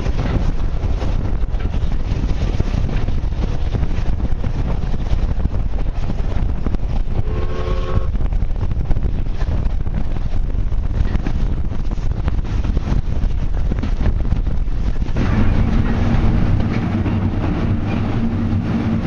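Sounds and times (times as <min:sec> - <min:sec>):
train wheels rumbling on track: 0:00.0 - 0:19.0
wind buffeting microphone: 0:00.0 - 0:19.0.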